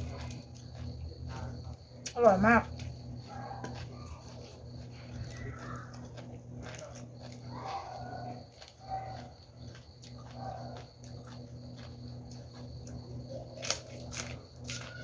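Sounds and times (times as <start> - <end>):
person chewing crunchy food: 0.0 - 15.0
steady low hum: 0.0 - 15.0.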